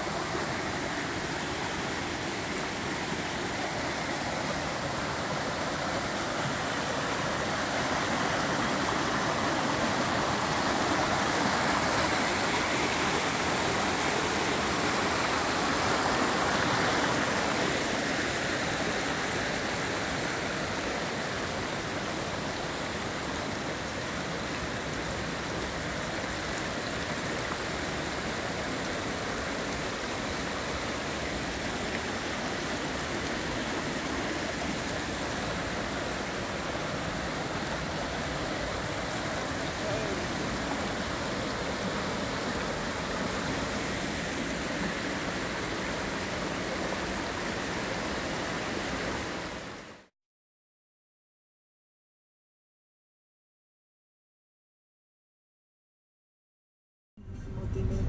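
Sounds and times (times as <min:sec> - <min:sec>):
stream babbling over rocks: 0:00.0 - 0:50.1.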